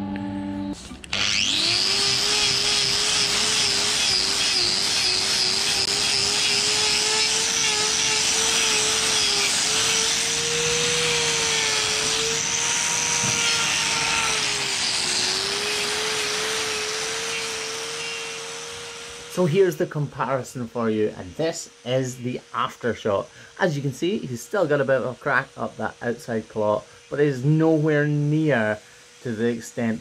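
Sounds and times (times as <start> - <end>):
angle grinder whining: 0.0 - 30.0
grinder grinding hoof: 0.0 - 30.0.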